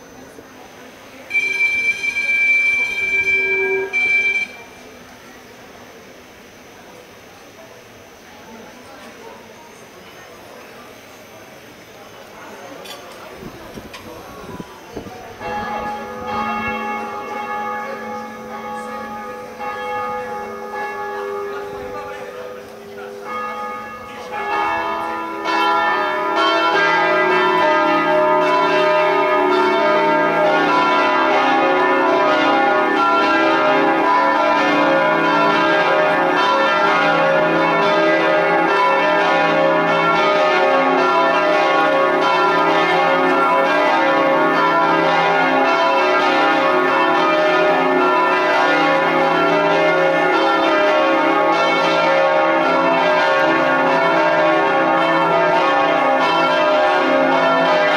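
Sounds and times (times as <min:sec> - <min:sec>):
church bells pealing: 0:01.2 - 0:05.0, 0:14.8 - 0:57.9.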